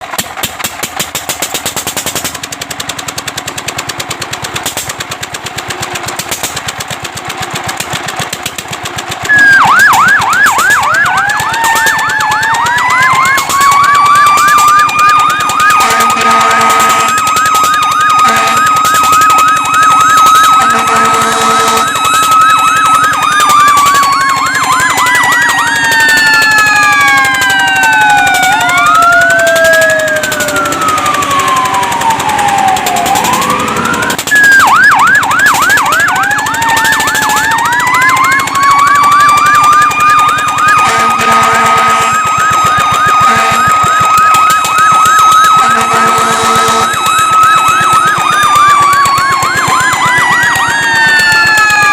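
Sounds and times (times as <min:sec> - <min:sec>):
fast pulsing noise: 0:01.0 - 0:51.9
siren wailing: 0:09.2 - 0:51.9
siren yelping: 0:09.2 - 0:51.9.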